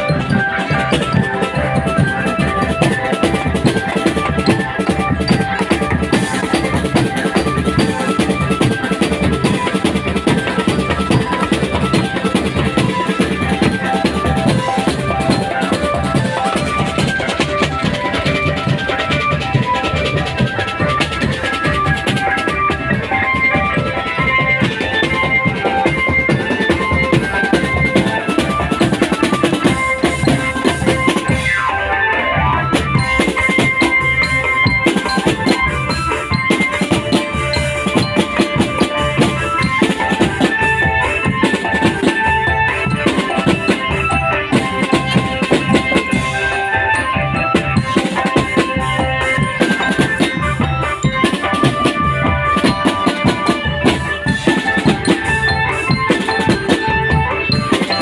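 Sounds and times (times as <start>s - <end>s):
marching bass and snare drums: 0.0s - 58.0s
melody over drums: 0.0s - 58.0s.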